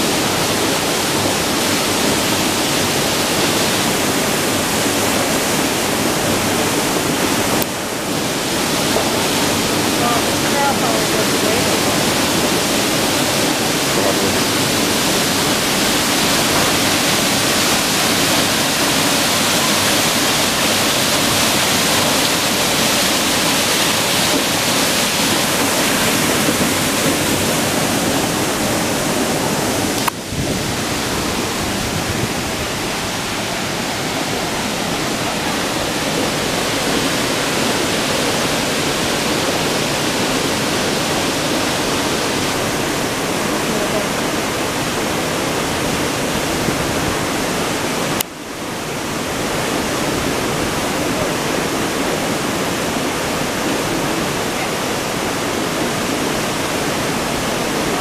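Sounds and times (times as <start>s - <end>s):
river water rushing over rocks: 0.0s - 58.0s.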